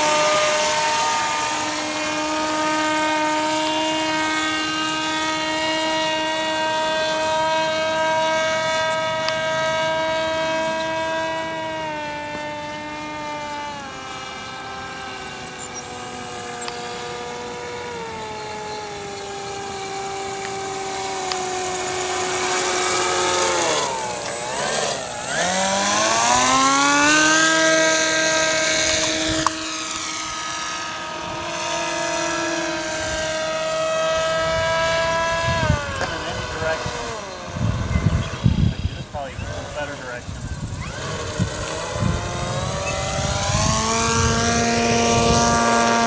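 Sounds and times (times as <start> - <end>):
model aircraft motor droning: 0.0 - 46.0.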